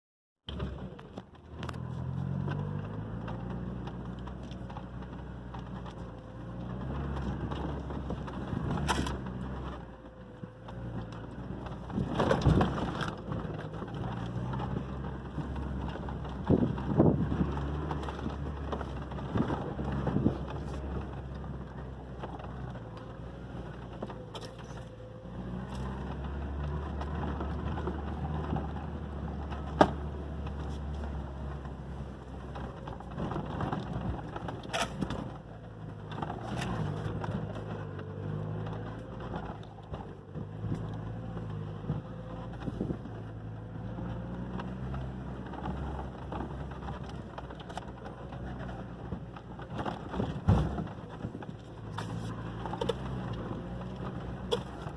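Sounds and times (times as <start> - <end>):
knocks and rattles from bumps: 0.5 - 54.9
pickup truck engine running low: 0.5 - 54.9.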